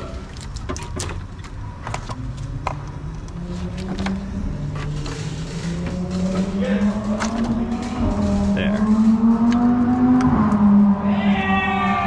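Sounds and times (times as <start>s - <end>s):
steady low rumble: 0.0s - 11.2s
low hum rising in pitch: 1.7s - 12.0s.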